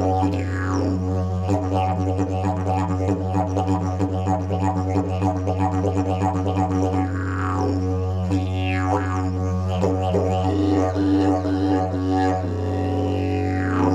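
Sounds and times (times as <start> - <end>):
didgeridoo drone: 0.0 - 13.9.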